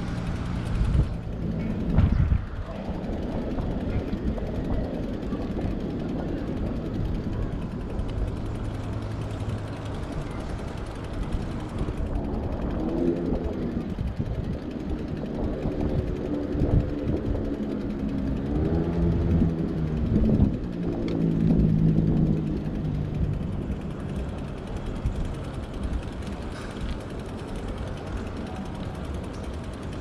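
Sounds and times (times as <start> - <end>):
wind on microphone: 0.0 - 28.7
vehicle engines: 0.0 - 30.0.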